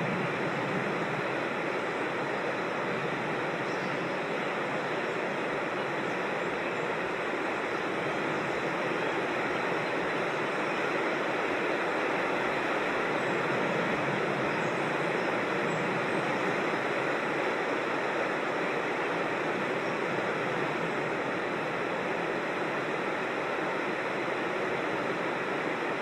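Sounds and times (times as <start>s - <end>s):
creek water flowing: 0.0s - 26.0s.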